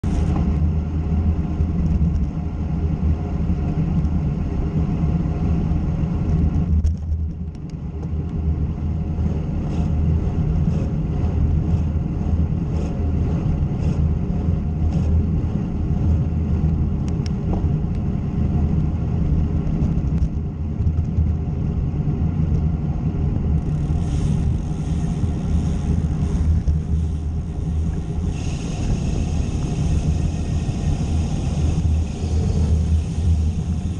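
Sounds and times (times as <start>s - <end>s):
wind and road noise: 0.0s - 33.9s.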